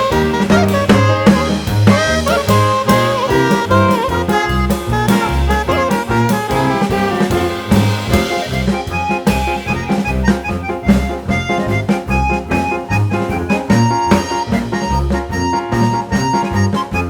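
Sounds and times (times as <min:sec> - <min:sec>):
instrumental music with horns: 0:00.0 - 0:17.0
steady drum beat: 0:00.0 - 0:17.0.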